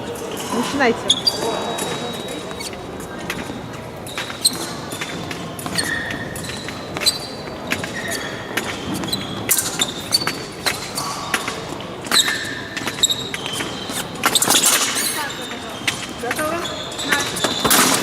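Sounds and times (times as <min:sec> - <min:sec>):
shoe squeaks: 0:00.0 - 0:18.0.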